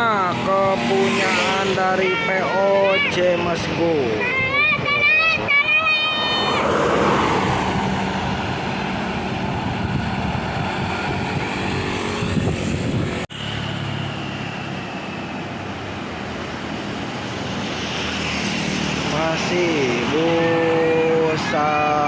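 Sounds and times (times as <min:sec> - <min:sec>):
buses driving past: 0:00.0 - 0:22.0.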